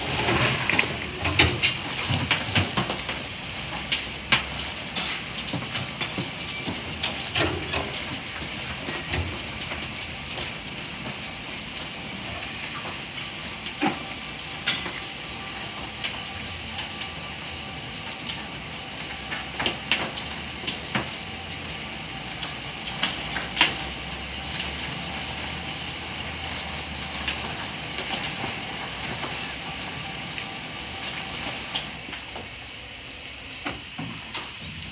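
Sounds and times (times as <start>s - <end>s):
steam locomotive hissing: 0.0s - 34.9s.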